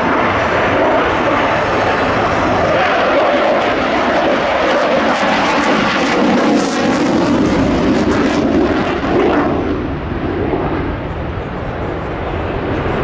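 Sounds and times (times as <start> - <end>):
jet engine roar in afterburner: 0.0 - 13.0.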